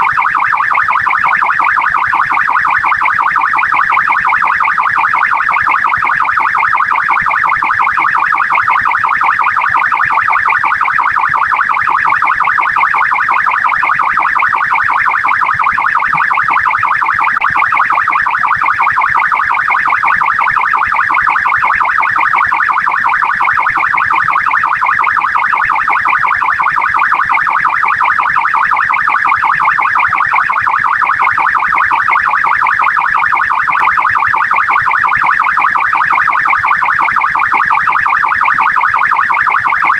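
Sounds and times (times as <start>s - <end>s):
police siren wailing rapidly: 0.0s - 39.9s.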